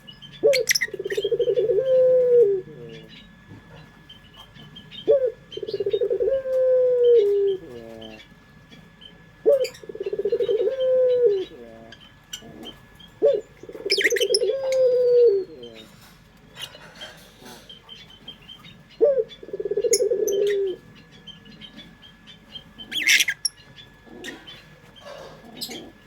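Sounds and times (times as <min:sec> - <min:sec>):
dove cooing: 0:00.0 - 0:26.0
small birds chirping: 0:00.0 - 0:26.0.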